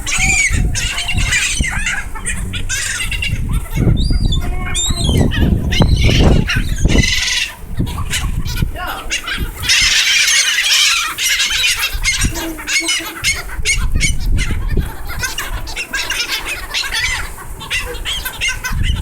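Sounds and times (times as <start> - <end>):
seagulls squawking: 0.0 - 19.0.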